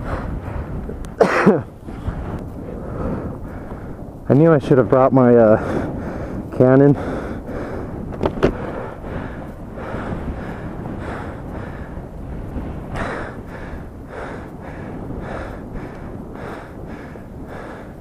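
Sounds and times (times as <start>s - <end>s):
man panting: 0.0s - 0.8s, 1.4s - 4.1s, 5.5s - 12.2s, 12.9s - 18.0s.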